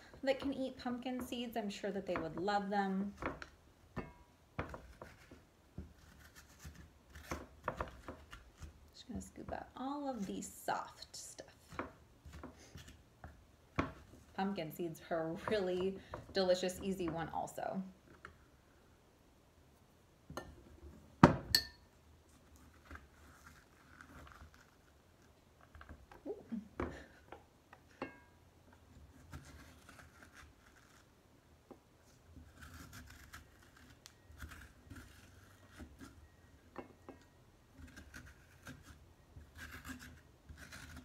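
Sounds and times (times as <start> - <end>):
spoon scraping squash: 0.0 - 3.6, 4.6 - 18.4, 21.5 - 31.2, 32.0 - 41.0.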